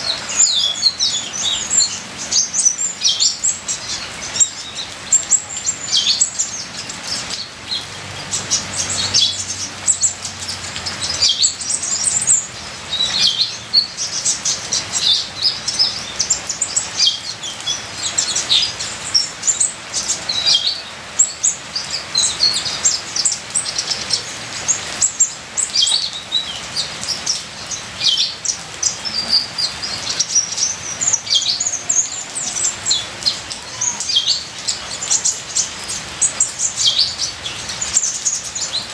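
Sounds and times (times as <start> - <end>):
bird chirping and twittering: 0.0 - 38.9
trickling water: 0.0 - 38.9.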